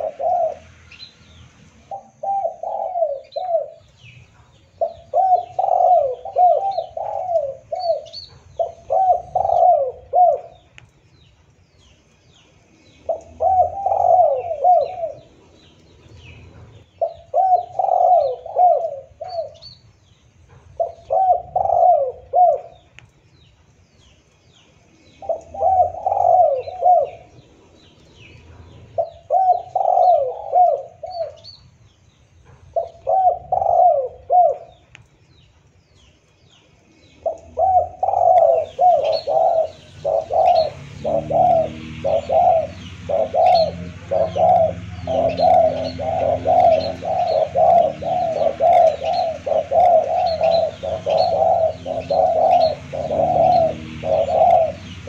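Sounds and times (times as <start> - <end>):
dove cooing: 0.0 - 1.0, 1.8 - 10.7, 12.8 - 19.8, 20.7 - 22.9, 25.1 - 31.6, 32.7 - 34.9, 37.1 - 55.0
small birds chirping: 0.0 - 55.0.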